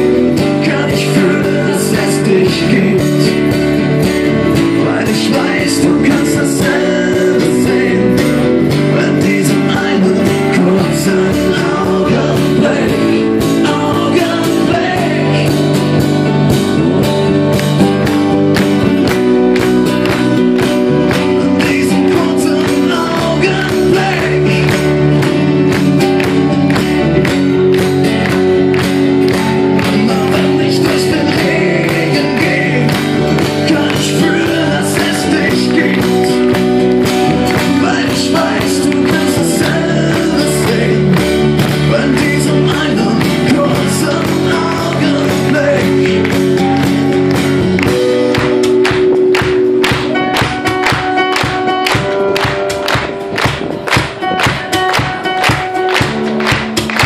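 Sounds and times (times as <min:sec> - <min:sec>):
acoustic band playing pop-rock ballad: 0:00.0 - 0:57.0.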